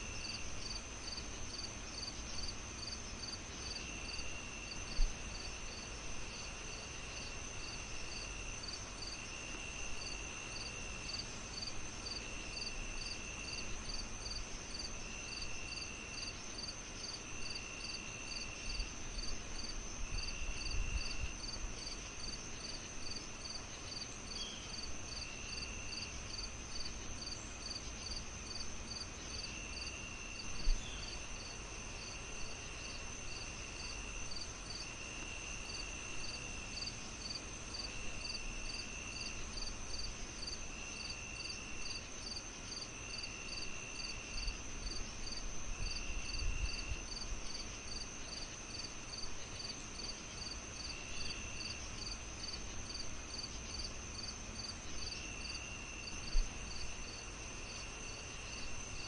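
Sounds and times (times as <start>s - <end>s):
constant high insect trill: 0.0s - 59.0s
insect chirping evenly: 0.0s - 59.0s.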